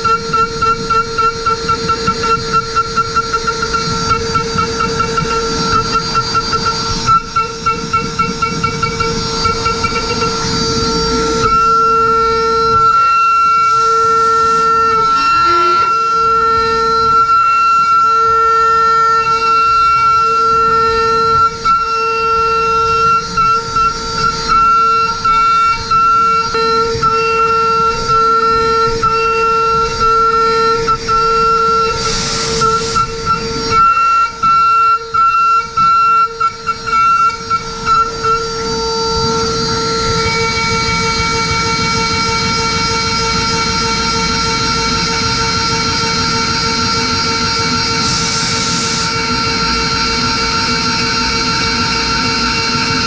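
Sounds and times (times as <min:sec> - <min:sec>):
milling spindle cutting whine: 0:00.0 - 0:53.0.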